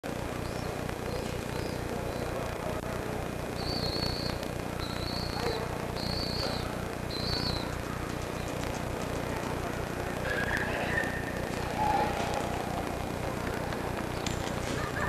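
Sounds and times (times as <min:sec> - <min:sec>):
low hum: 0:00.0 - 0:15.0
background noise wash: 0:00.1 - 0:15.0.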